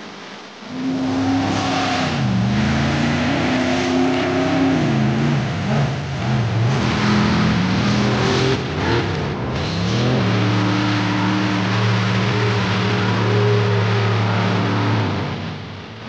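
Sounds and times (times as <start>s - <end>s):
rushing noise: 0.0s - 16.0s
buggy engines revving: 0.2s - 16.0s.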